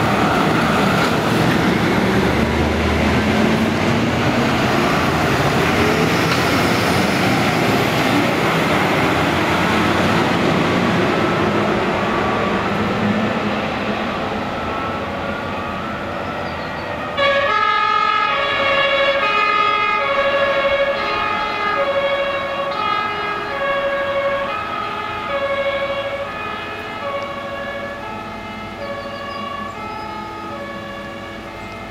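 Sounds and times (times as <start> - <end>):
traffic noise: 0.0 - 31.9
two-tone fire engine siren: 0.0 - 31.9.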